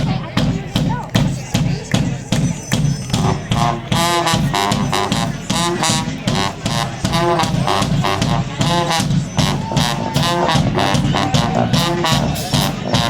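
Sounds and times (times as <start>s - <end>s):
steady drum beat: 0.0s - 13.0s
street band playing: 0.0s - 13.0s.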